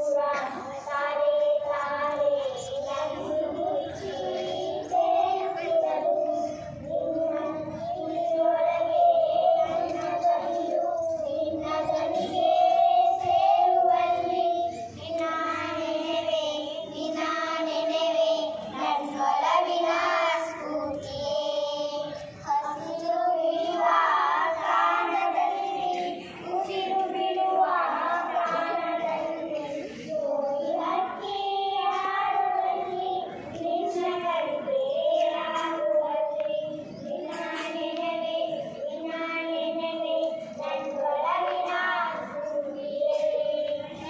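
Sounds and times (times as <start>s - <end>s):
girls singing into a microphone: 0.0s - 44.0s.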